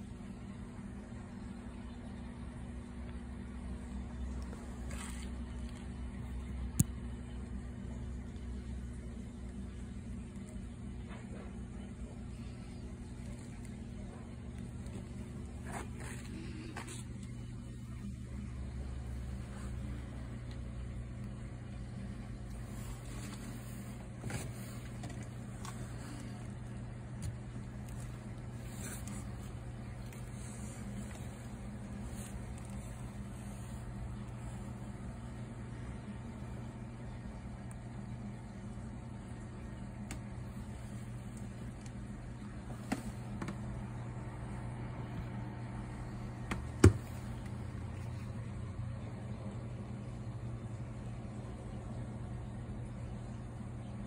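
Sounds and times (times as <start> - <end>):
aquarium equipment humming: 0.0 - 54.0.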